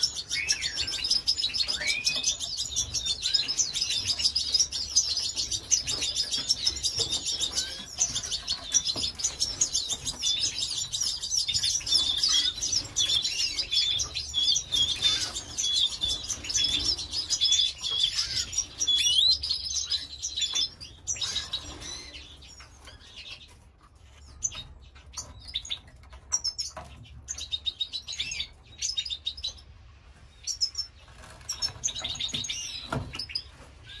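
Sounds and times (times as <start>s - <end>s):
canaries chirping: 0.0s - 34.0s.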